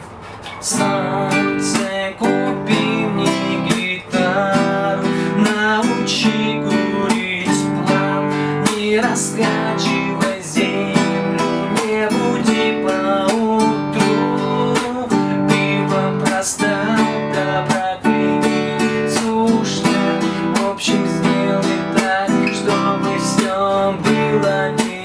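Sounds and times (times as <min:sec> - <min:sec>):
acoustic guitar strumming: 0:00.0 - 0:25.0
man singing: 0:00.6 - 0:25.0.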